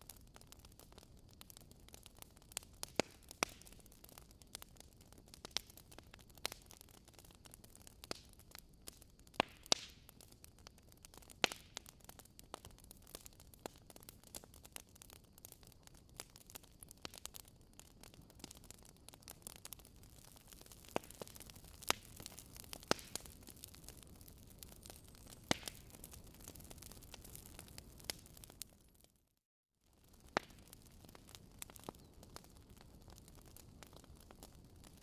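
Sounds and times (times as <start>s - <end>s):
wood fire crackling: 0.0s - 29.2s, 29.9s - 35.0s.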